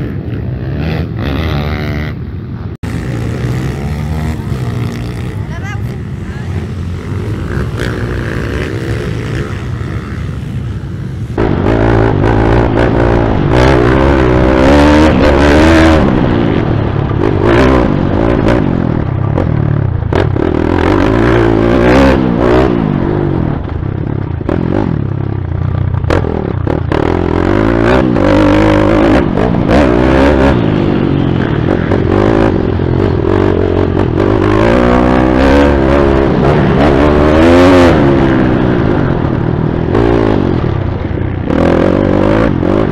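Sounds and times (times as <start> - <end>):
pit bike engine revving: 0.0 - 2.2, 2.8 - 42.9
pit bikes running: 0.0 - 42.9.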